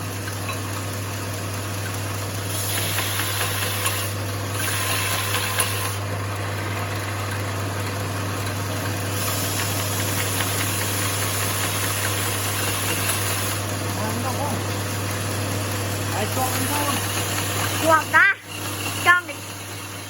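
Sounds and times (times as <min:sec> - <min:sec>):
belt grinder motor humming: 0:00.0 - 0:20.0
grinder belt hissing: 0:00.0 - 0:20.0.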